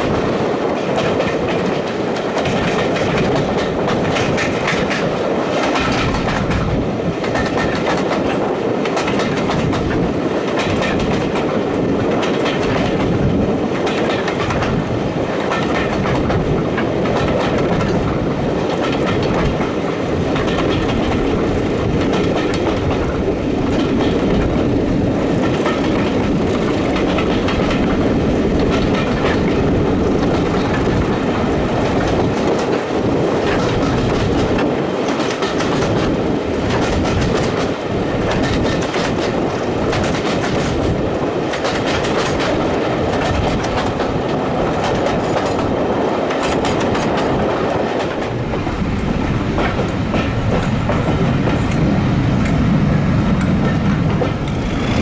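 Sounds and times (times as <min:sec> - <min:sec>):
train rumbling: 0:00.0 - 0:55.0
wheels clicking over rail joints: 0:00.0 - 0:55.0.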